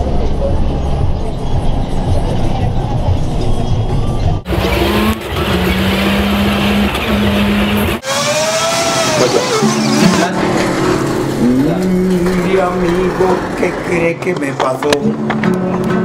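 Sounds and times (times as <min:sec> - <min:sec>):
bus engine and road noise: 0:00.0 - 0:15.4.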